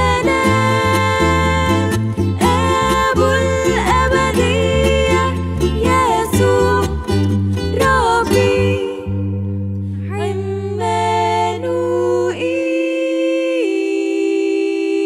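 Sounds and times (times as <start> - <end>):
vocal group singing a hymn: 0.0 - 9.4, 10.0 - 15.0.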